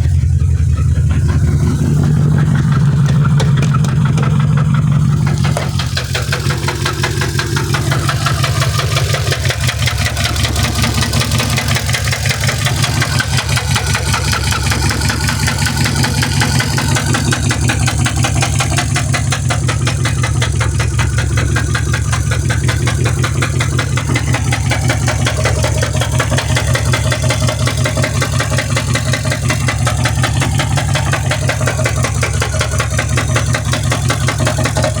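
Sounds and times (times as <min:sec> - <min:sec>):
car engine running: 0:00.0 - 0:35.0
fast engine ticking: 0:00.0 - 0:35.0.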